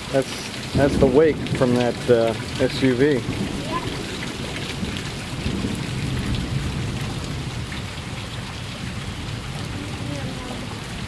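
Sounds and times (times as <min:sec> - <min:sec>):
floodwater washing along curb: 0:00.0 - 0:11.0
rain falling: 0:00.0 - 0:11.0.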